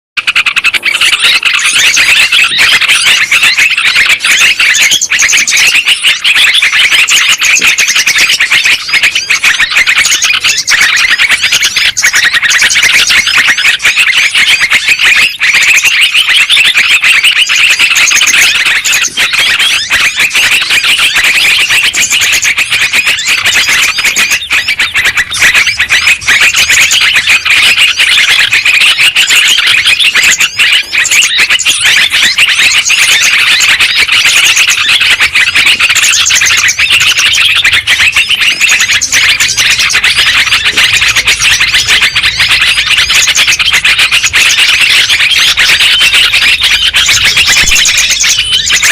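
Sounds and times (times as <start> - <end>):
small birds chattering and trilling: 0.2 - 48.9.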